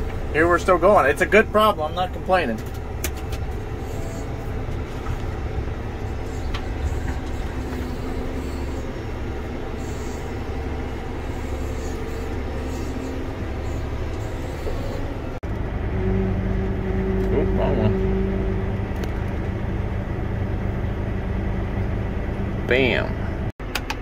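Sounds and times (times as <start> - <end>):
tractor engine rumble: 0.0 - 24.0.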